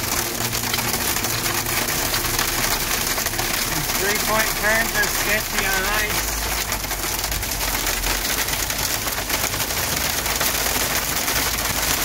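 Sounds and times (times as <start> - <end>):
hail and rain drumming on car roof: 0.0 - 12.0.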